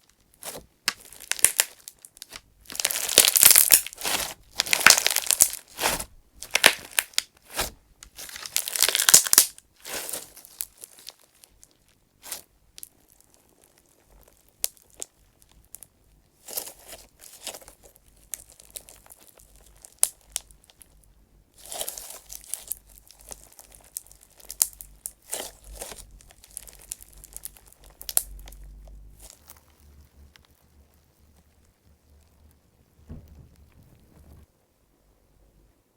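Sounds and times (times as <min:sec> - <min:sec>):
gritty crunch of clay chips: 0:00.0 - 0:21.0, 0:21.6 - 0:32.5.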